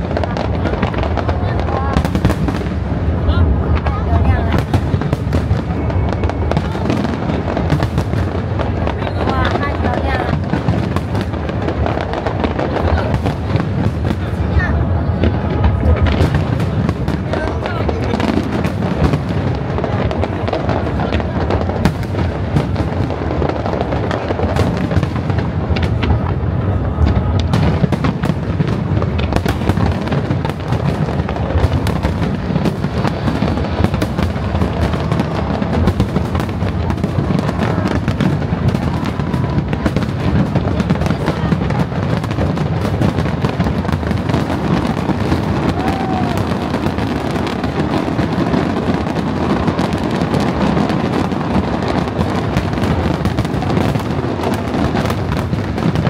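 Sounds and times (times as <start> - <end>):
fireworks booming: 0.0 - 56.0
fireworks crackling bursts: 0.0 - 56.0.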